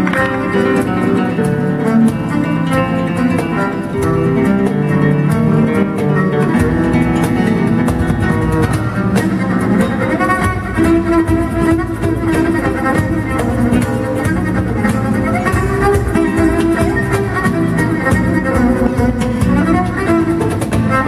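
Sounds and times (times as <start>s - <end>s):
acoustic guitar: 0.0s - 21.0s
bowed double bass: 0.0s - 21.0s.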